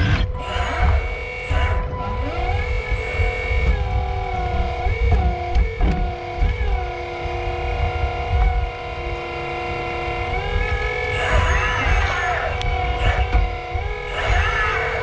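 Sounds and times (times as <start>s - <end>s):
hydraulic pump whining: 0.0s - 15.0s.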